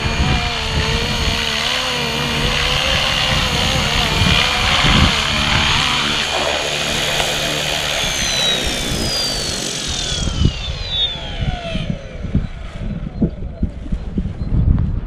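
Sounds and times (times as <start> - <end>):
rc helicopter motor spooling down: 0.0 - 14.0.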